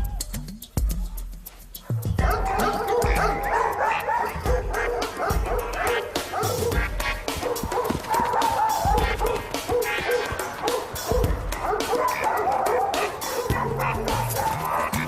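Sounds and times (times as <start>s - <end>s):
background music: 0.0s - 15.0s
dogs yipping and barking: 1.8s - 15.0s.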